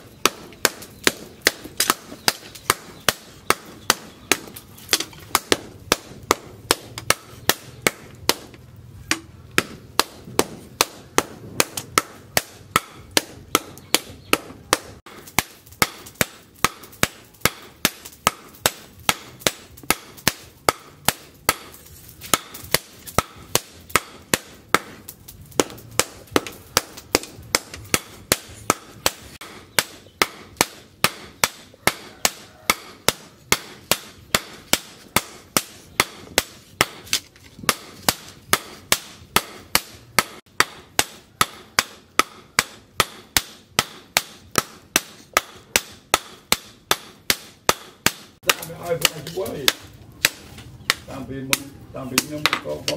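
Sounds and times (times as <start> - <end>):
hammer striking steel on anvil: 0.2 - 25.0, 25.6 - 52.9.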